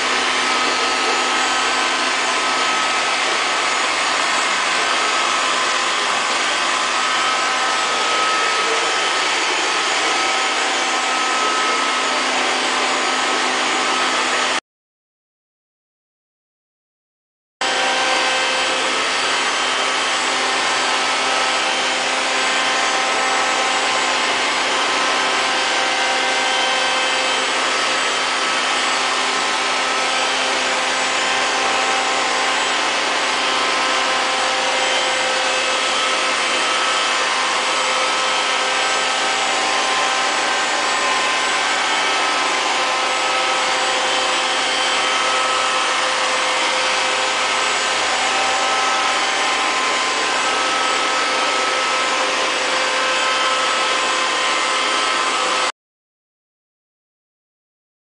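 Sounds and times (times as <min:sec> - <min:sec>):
robot vacuum whirring: 0:00.0 - 0:14.5, 0:23.4 - 0:55.6.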